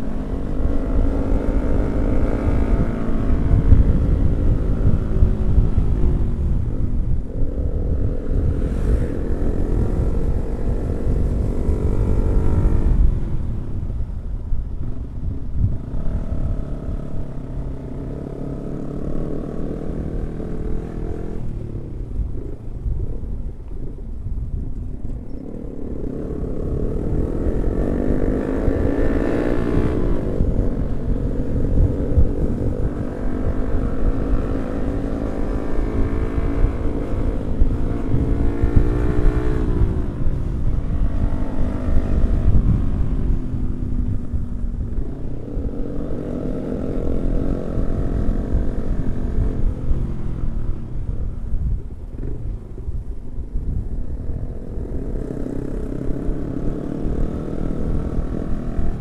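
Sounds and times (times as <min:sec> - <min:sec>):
motorcycle engine revving: 0:00.0 - 0:23.9, 0:25.0 - 0:59.0.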